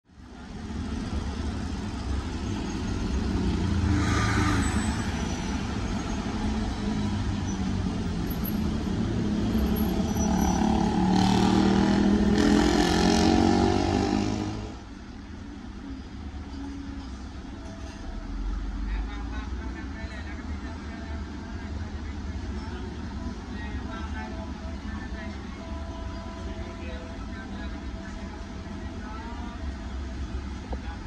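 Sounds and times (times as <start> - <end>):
city traffic rumble: 0.0 - 31.0
heavy engine: 0.1 - 31.0.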